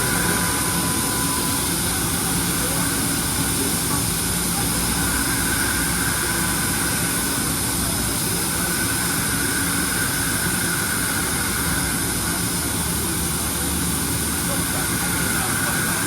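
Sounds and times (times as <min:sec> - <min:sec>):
washing machine droning and whining: 0:00.0 - 0:16.0.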